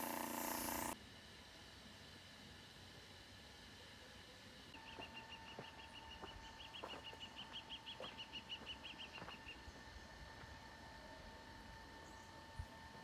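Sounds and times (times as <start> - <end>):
steady high hum: 0.0 - 13.0.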